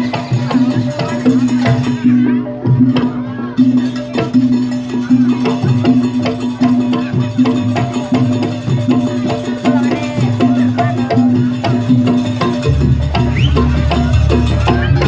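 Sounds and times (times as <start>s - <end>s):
drums and struck percussion: 0.0s - 15.0s.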